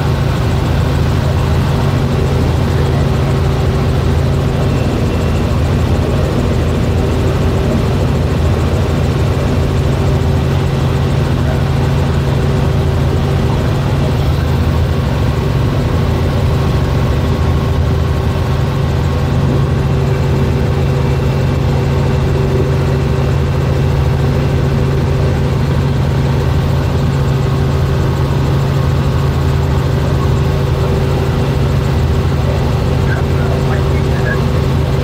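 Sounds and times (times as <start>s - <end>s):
helicopter engine and rotors droning: 0.0s - 35.0s.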